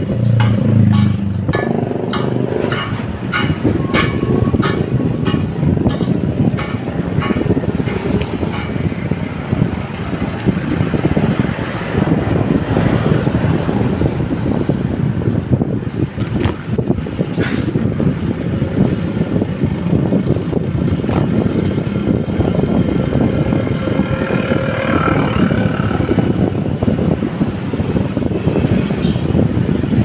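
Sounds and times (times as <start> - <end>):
street traffic: 0.0 - 30.0
wind buffeting microphone: 0.0 - 30.0.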